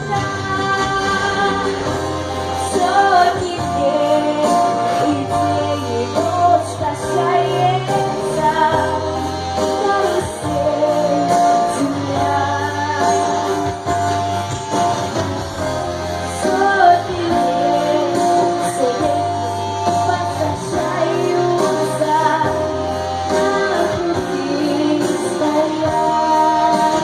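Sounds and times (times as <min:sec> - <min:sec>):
woman singing: 0:00.0 - 0:14.0, 0:16.3 - 0:27.0
instrumental backing music: 0:00.0 - 0:27.0.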